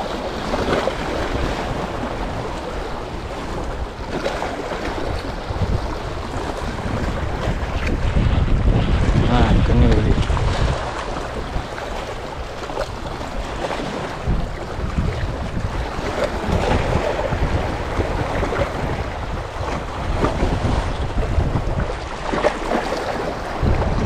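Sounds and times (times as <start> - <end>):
water sloshing against boat hull: 0.0 - 24.0
wind gusting across microphone: 0.0 - 24.0.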